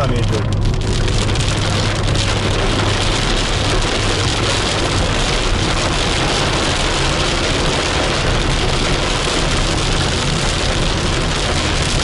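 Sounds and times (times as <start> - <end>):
engine and road hum: 0.0 - 12.0
rain pelting a car roof: 0.0 - 12.0.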